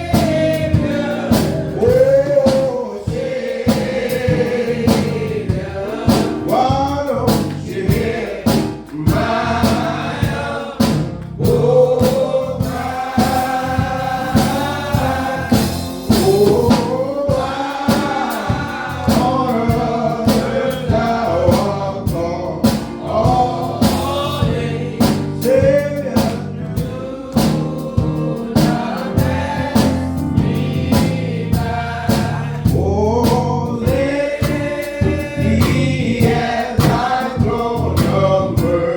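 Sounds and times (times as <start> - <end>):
gospel choir singing: 0.0 - 38.9
steady beat: 0.0 - 38.9.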